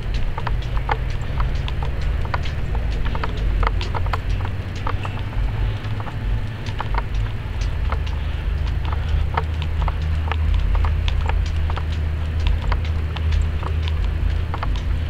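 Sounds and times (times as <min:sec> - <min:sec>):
footsteps on pavement: 0:00.0 - 0:15.0
low rumble: 0:00.0 - 0:15.0.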